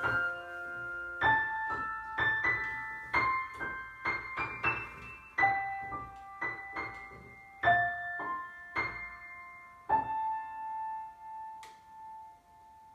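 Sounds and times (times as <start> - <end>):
slow piano notes: 0.0 - 12.9.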